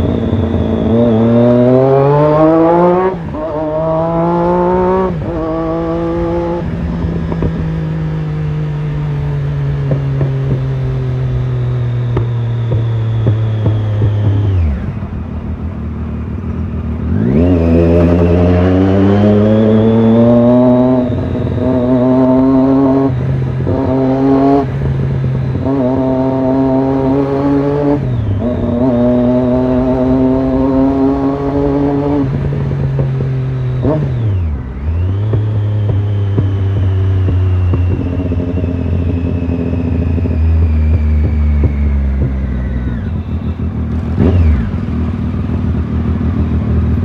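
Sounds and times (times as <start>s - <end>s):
motorcycle engine idling and revving: 0.0s - 47.0s.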